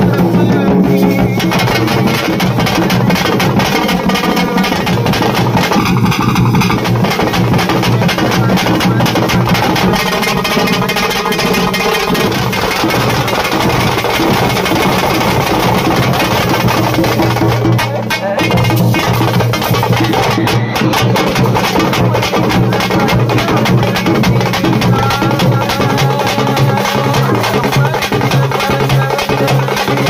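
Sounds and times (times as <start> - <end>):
drummers beating barrel drums: 0.0 - 30.0.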